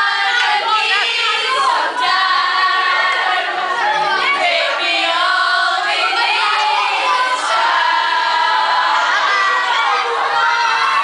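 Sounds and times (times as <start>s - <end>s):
girls singing together: 0.0s - 11.0s.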